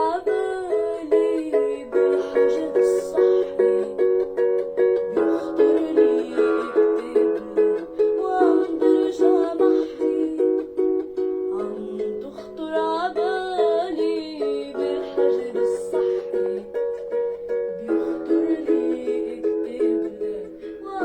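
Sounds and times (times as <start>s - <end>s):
person singing with vibrato: 0.0s - 17.0s, 17.8s - 21.0s
plucked string instrument strumming: 0.0s - 21.0s.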